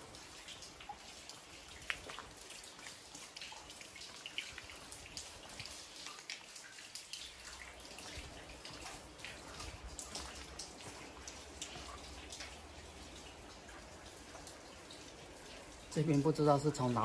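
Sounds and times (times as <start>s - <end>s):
rain dripping on concrete: 0.0s - 17.0s
steady hiss of rain: 0.0s - 17.0s.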